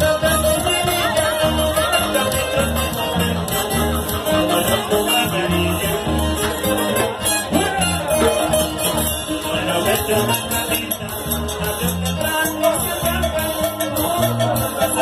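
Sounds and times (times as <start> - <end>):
repeating bass line: 0.0 - 15.0
violin: 0.0 - 15.0.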